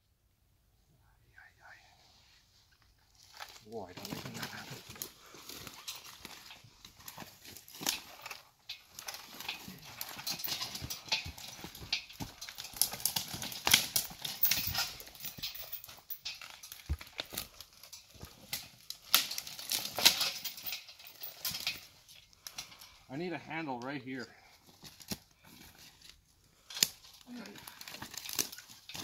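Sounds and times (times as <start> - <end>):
twigs crunching and snapping: 3.1 - 23.0, 24.6 - 29.0.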